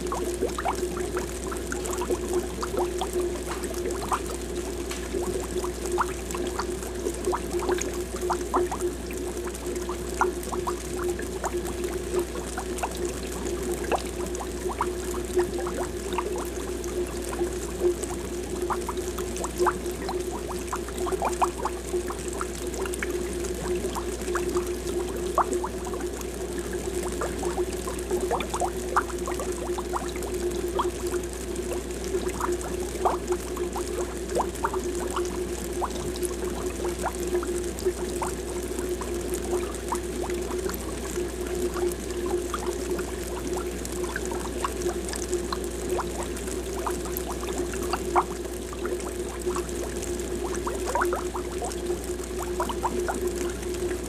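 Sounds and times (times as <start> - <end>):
aquarium air bubbles: 0.0 - 54.0.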